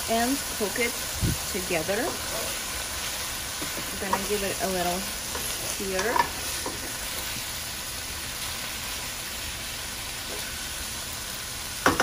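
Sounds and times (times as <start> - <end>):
chicken and peppers sizzling in pan: 0.0 - 12.0.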